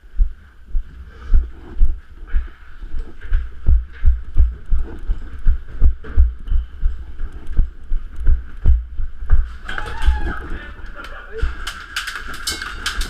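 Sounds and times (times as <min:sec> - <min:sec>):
low thumps of running footsteps: 0:00.0 - 0:10.8.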